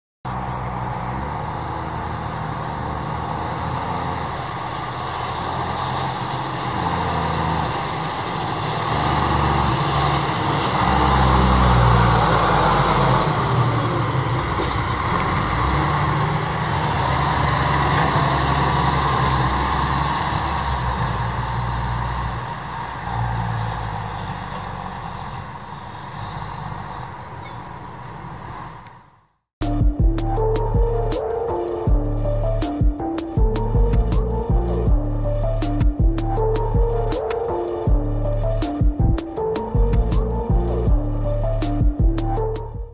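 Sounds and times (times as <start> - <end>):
road noise: 0.2 - 42.9
truck engine passing: 0.3 - 42.9.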